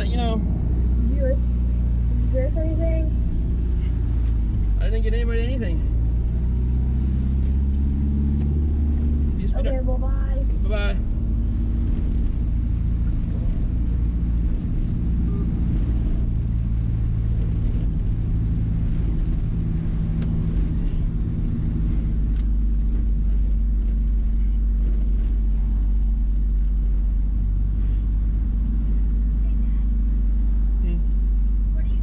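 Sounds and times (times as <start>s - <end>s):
pickup engine droning: 0.0s - 32.0s
road noise: 0.0s - 32.0s.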